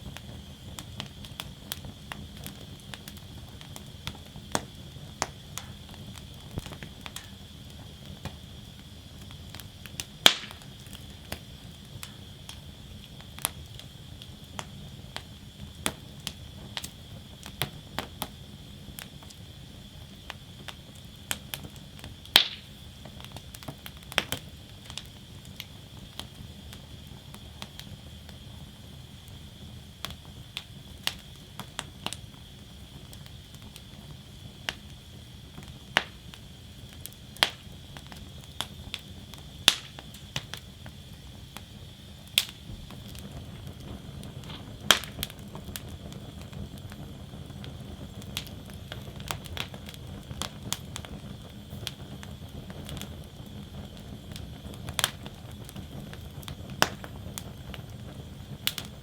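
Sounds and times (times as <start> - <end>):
low hiss of fire: 0.0 - 59.0
wood fire crackling and popping: 0.0 - 59.0.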